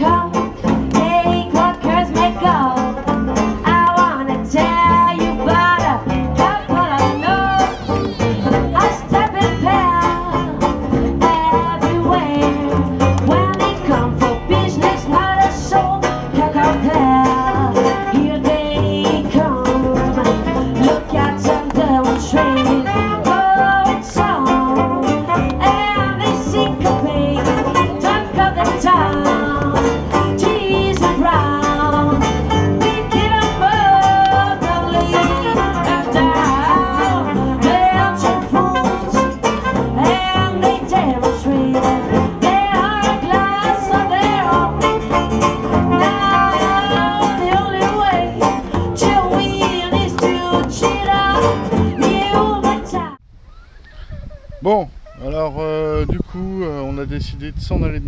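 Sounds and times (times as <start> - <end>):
live band playing: 0.0 - 53.2
person singing: 0.0 - 53.2.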